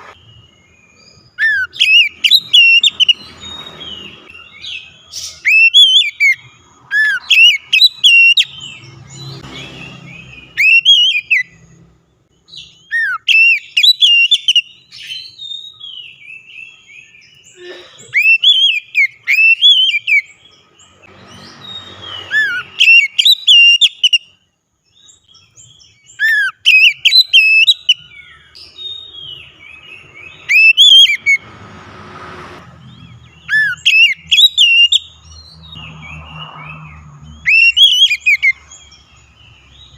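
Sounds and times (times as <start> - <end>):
songbird singing whistled phrases: 0.1 - 11.6, 12.4 - 17.6, 18.2 - 31.4, 33.4 - 39.9.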